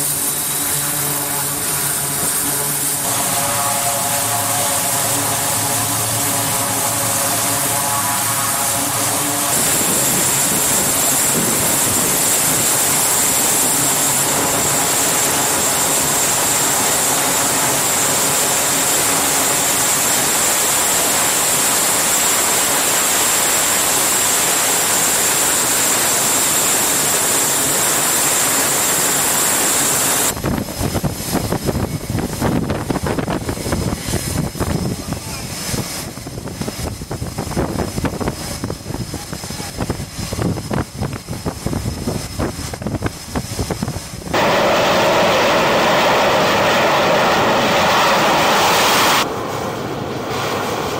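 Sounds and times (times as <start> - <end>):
flight deck noise: 0.0 - 50.9
turboprop engines roaring: 0.0 - 50.9.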